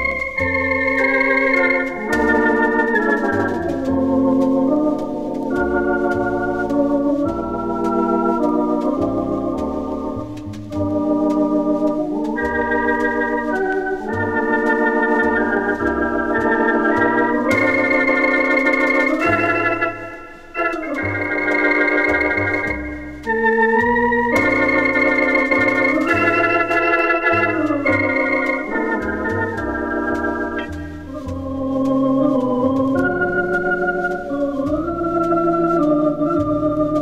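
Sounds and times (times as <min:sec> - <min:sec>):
organ playing wavering chords: 0:00.0 - 0:37.0
steady bass line: 0:00.0 - 0:37.0.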